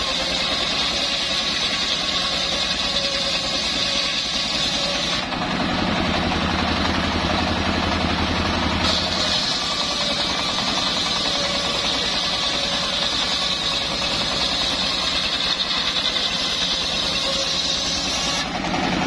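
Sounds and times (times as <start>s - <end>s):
engine drone: 0.0s - 19.0s
saw blade whine: 0.0s - 19.0s.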